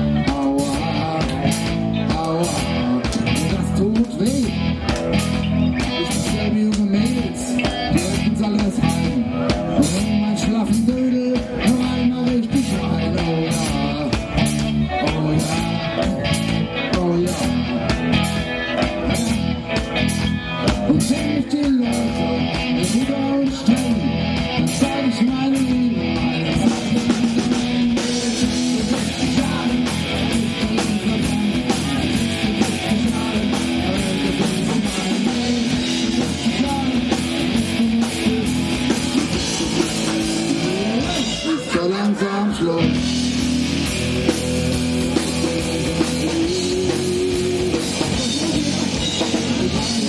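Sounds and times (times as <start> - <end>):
bass: 0.0 - 50.0
drums: 0.0 - 50.0
electric guitar melody: 0.0 - 50.0.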